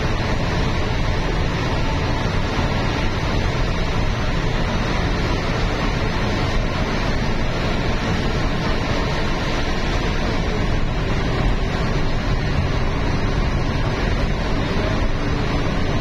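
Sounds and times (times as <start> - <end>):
vehicle road and wind noise: 0.0 - 16.0.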